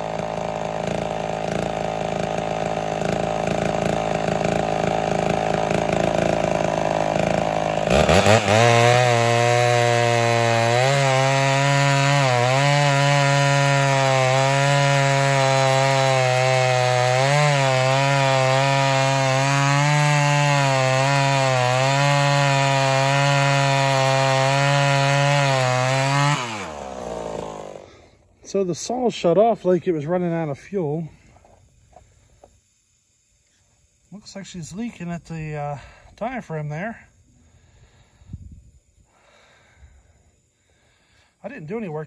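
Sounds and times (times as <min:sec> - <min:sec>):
chainsaw cutting through log: 0:00.0 - 0:42.0.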